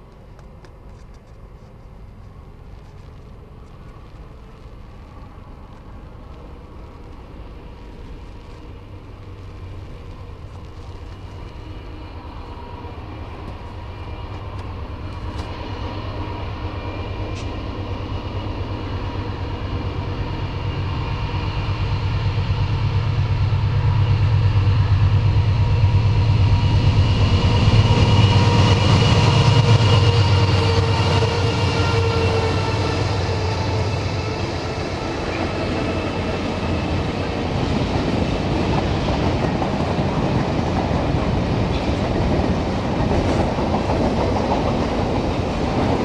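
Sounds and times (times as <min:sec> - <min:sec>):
diesel locomotive engines droning: 0:00.0 - 0:46.0.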